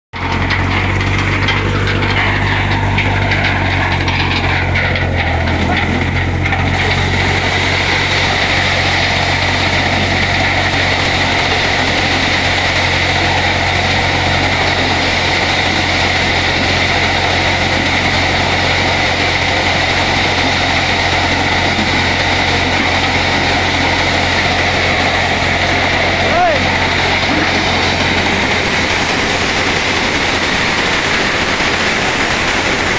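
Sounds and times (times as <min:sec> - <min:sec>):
maize thresher running: 0:00.1 - 0:32.9.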